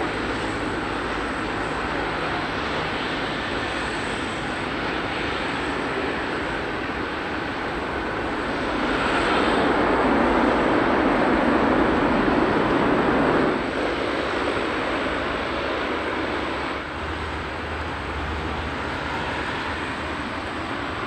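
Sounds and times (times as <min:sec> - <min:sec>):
distant jet engine roar: 0:00.0 - 0:21.0.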